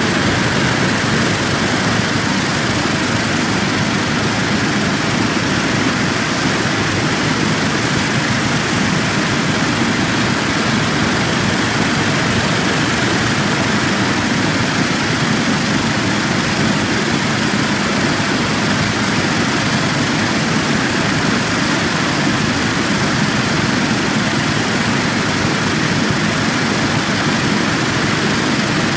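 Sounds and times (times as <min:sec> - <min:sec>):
rushing water: 0:00.0 - 0:28.9.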